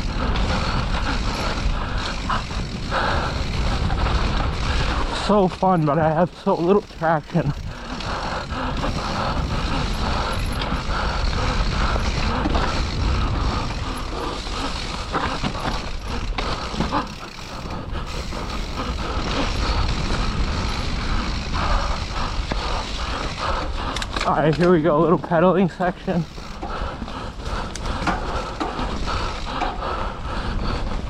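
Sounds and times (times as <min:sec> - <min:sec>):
bike rattling and creaking: 0:00.0 - 0:31.0
tyres rumbling on trail: 0:00.0 - 0:31.0.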